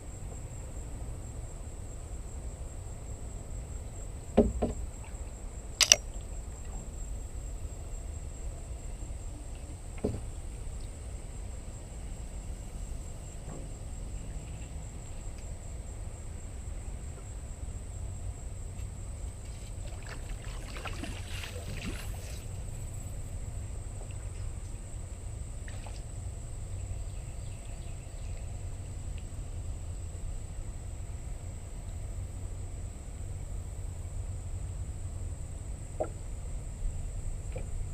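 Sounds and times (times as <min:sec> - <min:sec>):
boat engine rumble: 0:00.0 - 0:37.9.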